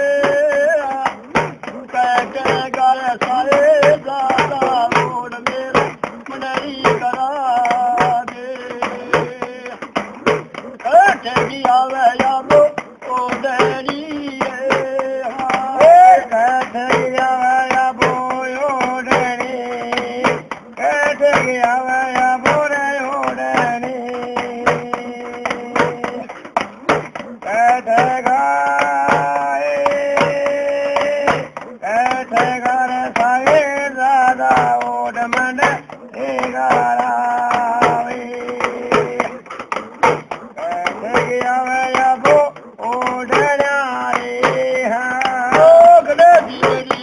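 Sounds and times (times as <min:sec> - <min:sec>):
instrumental accompaniment: 0:00.0 - 0:47.0
man singing folk song: 0:00.0 - 0:47.0
steady drum beat: 0:00.0 - 0:47.0.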